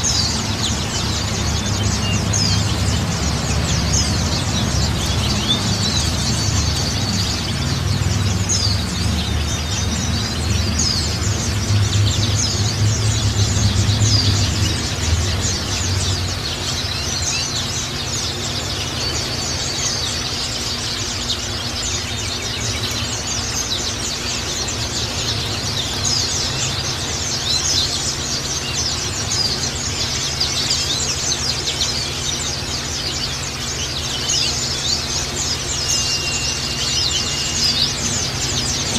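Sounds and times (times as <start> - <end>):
birds chirping and twittering: 0.0 - 38.9.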